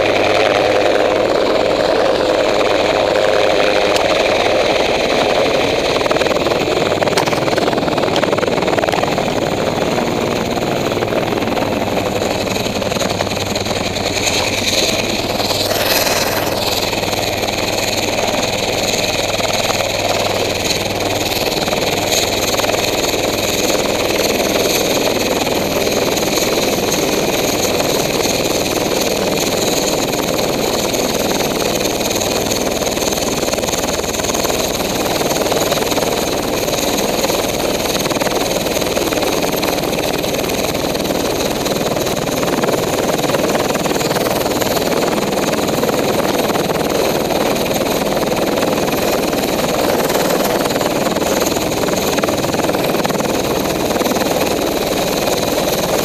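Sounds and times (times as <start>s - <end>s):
helicopter rotor and engine noise: 0.0s - 56.0s
high turbine whine: 0.0s - 56.0s.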